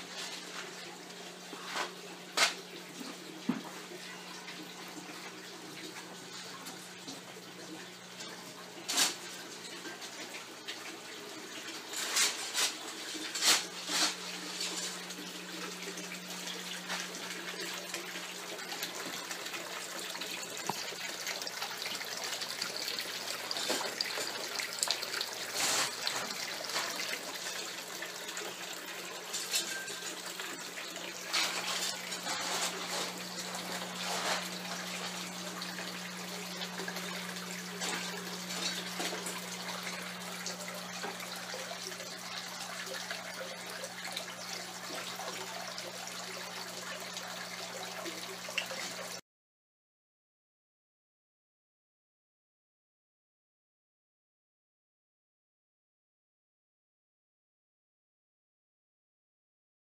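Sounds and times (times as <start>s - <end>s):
water pouring and splashing: 0.0s - 49.2s.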